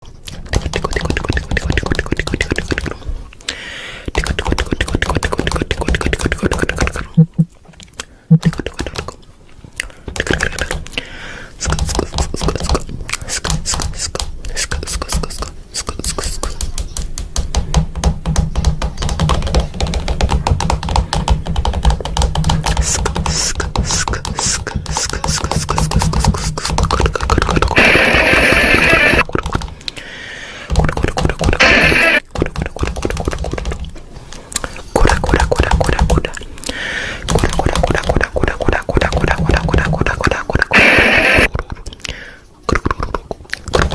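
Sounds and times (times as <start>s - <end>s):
beatboxing mouth clicks: 0.2s - 17.2s, 21.8s - 30.0s, 30.7s - 43.9s.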